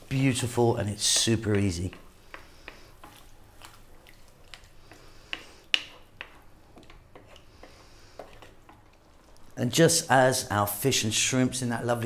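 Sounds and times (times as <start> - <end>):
spoon stirring thick sauce: 0.0 - 11.1.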